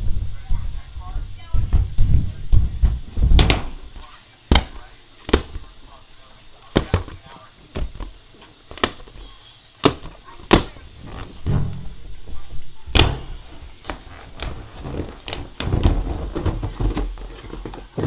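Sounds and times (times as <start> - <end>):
rubbery rubbing and handling: 0.0 - 18.0
balloons popping: 1.8 - 18.0.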